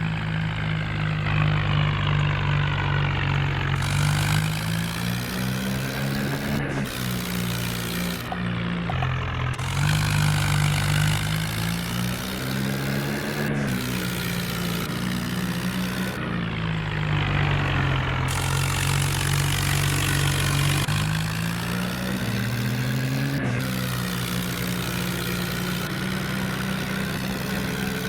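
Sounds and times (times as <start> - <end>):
tractor engines running hard: 0.0 - 28.0.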